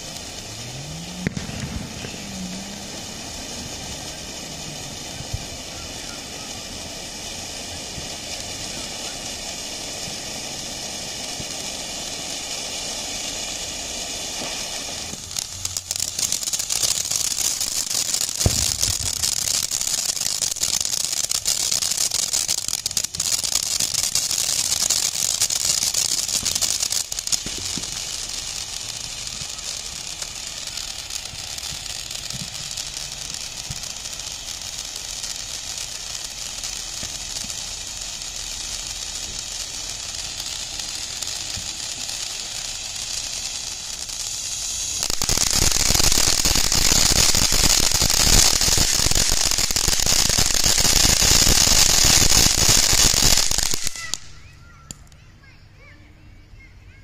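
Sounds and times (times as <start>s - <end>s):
firework fountain hissing and crackling: 0.0s - 57.0s.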